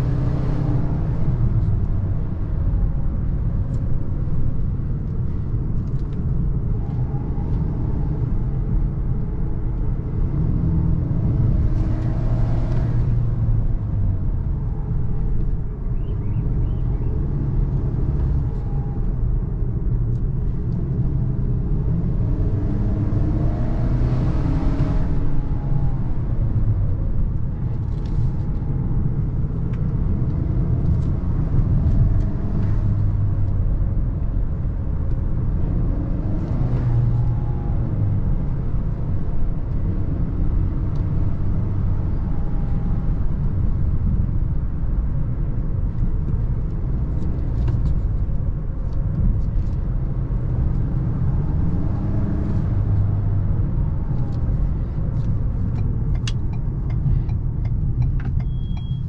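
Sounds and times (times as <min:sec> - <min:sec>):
road rumble: 0:00.0 - 0:59.0.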